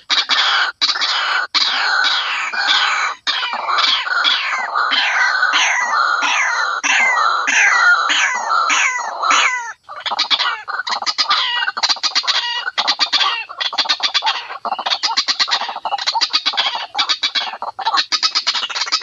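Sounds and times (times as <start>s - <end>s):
fast harsh clucking calls: 0.0s - 19.0s.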